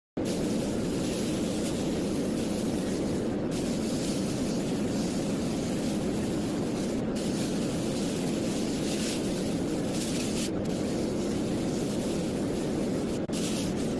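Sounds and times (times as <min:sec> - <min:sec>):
fan rushing: 0:00.2 - 0:13.9
laser cleaning machine hissing: 0:00.2 - 0:13.9.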